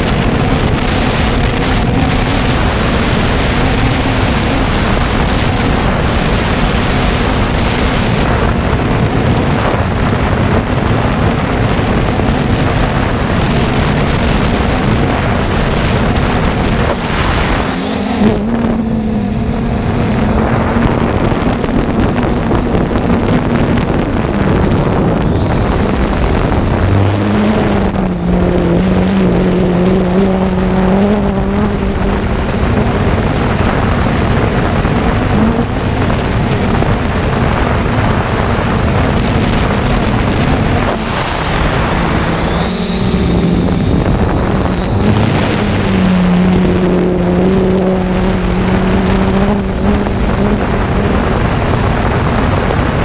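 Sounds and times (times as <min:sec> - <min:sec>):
drone motors humming: 0:00.0 - 0:53.0
wind on microphone: 0:00.0 - 0:53.0.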